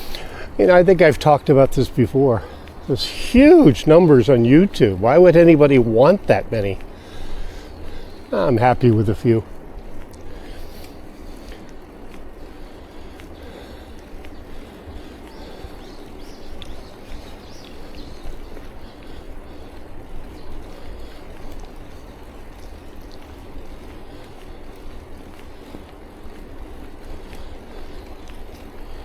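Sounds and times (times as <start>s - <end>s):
bicycle road noise: 0.0s - 29.0s
wind buffeting microphone: 0.0s - 29.0s.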